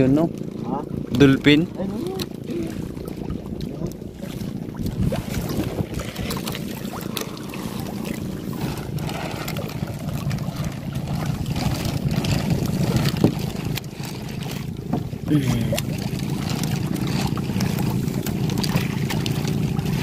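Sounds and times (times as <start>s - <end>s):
boat engine drone: 0.0s - 20.0s
water splashing against hull: 0.0s - 20.0s
wind buffeting microphone: 0.0s - 20.0s.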